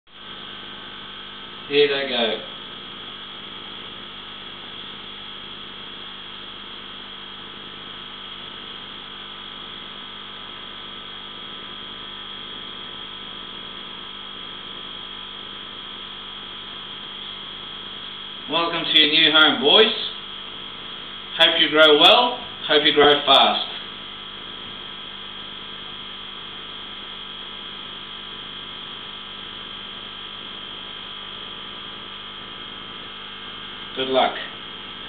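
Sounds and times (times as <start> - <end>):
electrical hum: 0.1 - 35.0
high whine: 0.1 - 35.0.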